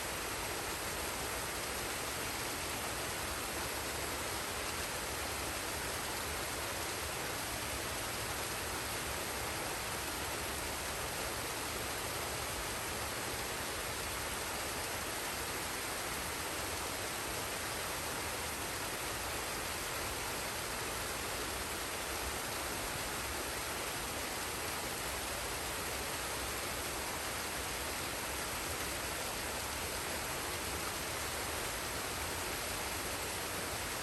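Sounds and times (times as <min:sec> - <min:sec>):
waterfall and stream rushing: 0:00.0 - 0:34.0.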